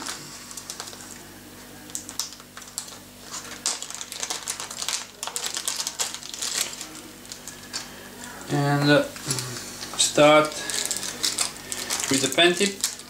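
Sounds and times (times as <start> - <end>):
plastic bag crinkling: 0.0 - 1.2, 1.8 - 13.0.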